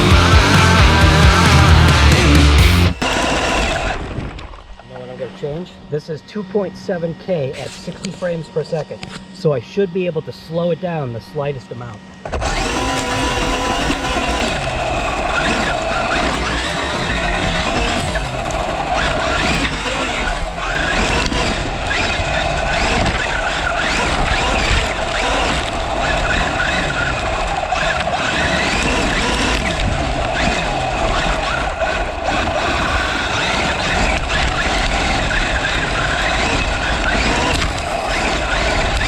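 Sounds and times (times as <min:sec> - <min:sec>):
rc car motor whining: 0:00.0 - 0:39.0
steady running noise: 0:00.0 - 0:39.0.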